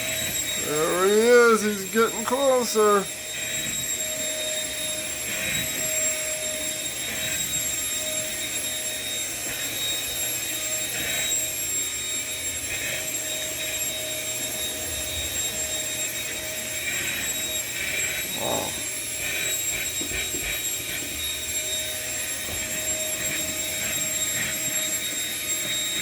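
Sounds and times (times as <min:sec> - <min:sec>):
vacuum cleaner whining: 0:00.0 - 0:26.0.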